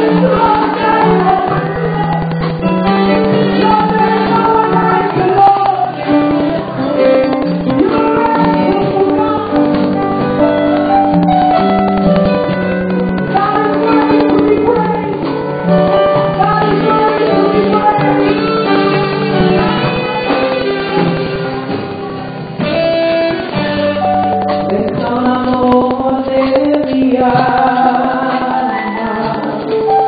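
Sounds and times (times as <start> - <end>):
woman singing into microphone: 0.0 - 11.2, 12.4 - 21.5, 23.3 - 30.0
guitar and band playing: 0.0 - 30.0.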